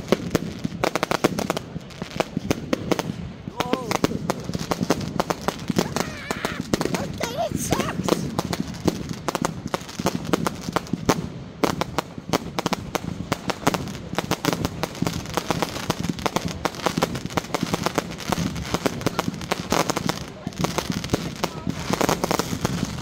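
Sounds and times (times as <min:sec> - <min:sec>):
fireworks bangs and pops: 0:00.0 - 0:23.0.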